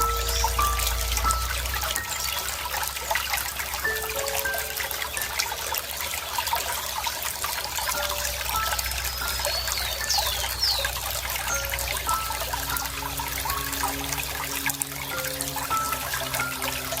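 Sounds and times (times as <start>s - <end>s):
water trickling over stones: 0.0s - 17.0s.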